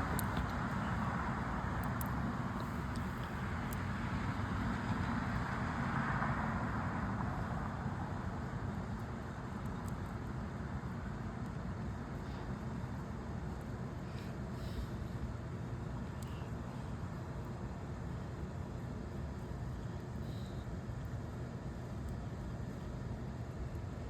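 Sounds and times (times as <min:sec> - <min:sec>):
road traffic hiss and rumble: 0:00.0 - 0:24.0.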